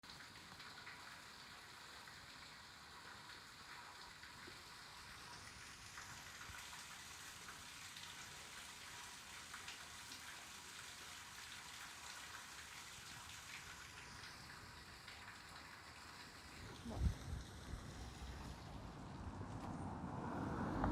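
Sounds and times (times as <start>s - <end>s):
water trickling into sewer: 0.0s - 19.4s.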